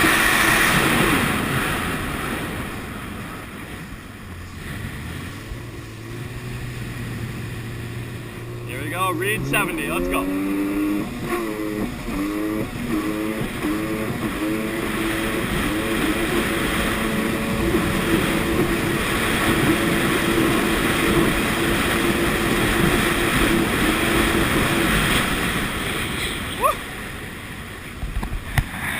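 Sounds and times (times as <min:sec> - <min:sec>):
jet ski engine at full throttle: 0:00.0 - 0:28.9
rush of wind and water: 0:00.0 - 0:28.9.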